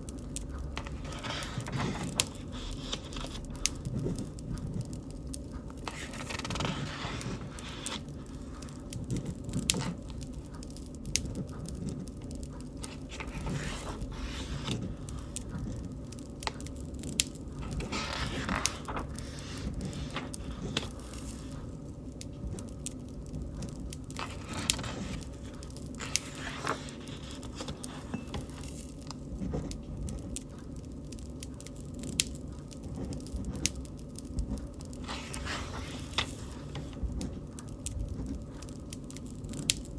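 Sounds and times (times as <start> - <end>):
bonfire crackling: 0.0 - 39.9
low flame noise: 0.0 - 39.9.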